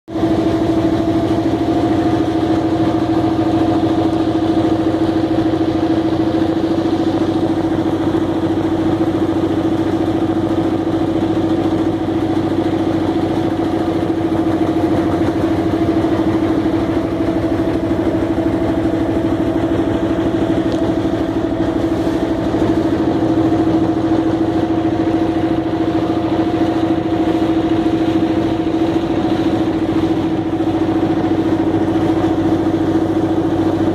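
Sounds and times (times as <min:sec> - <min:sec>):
boat engine running: 0:00.1 - 0:33.9.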